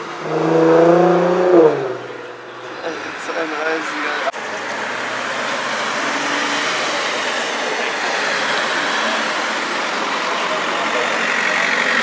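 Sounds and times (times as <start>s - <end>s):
car approaching: 0.0s - 12.0s
cars driving past: 0.0s - 12.0s.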